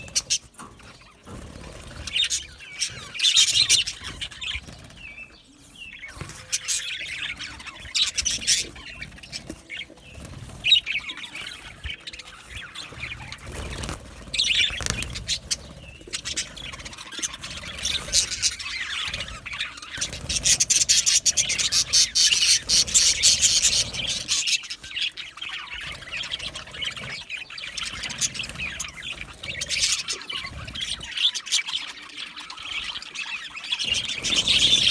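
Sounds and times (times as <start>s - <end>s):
budgerigars chirping and warbling: 0.0s - 34.9s.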